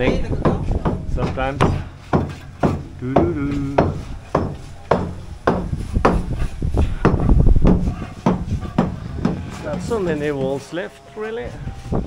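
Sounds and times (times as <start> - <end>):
hammer blows: 0.0 - 12.0.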